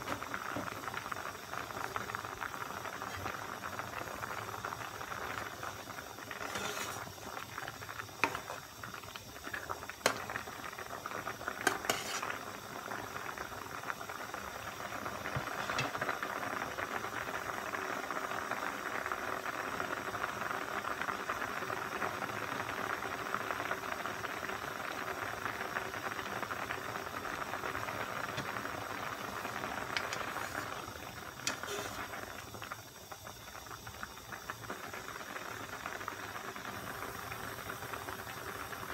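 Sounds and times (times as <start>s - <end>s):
broth boiling in a pot: 0.0s - 38.9s.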